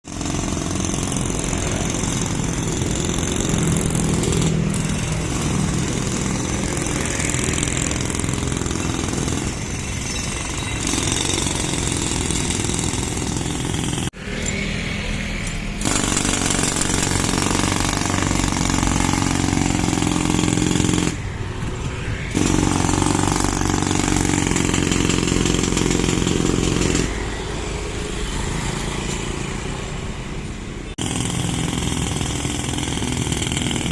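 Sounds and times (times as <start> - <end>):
road works machinery and engines: 0.0 - 33.9.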